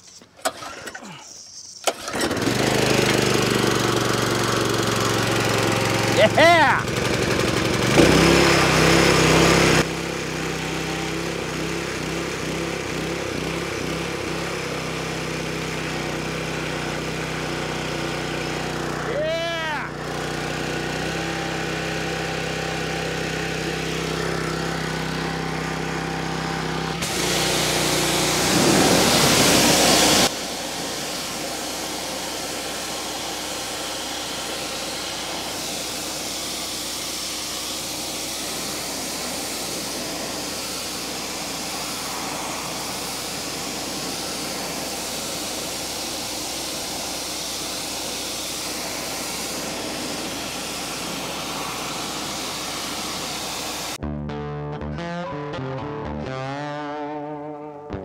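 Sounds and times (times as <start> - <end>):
pressure washer engine running: 0.0 - 54.0
water spraying: 0.0 - 54.0.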